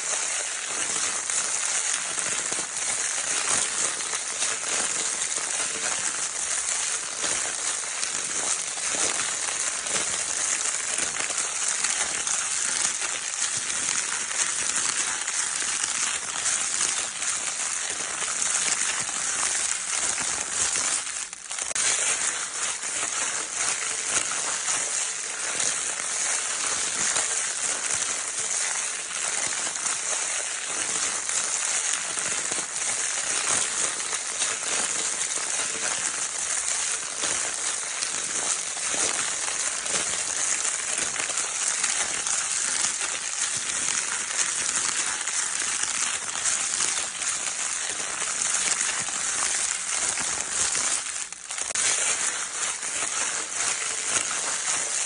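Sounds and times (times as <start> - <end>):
crinkle paper rustling: 0.0 - 55.0.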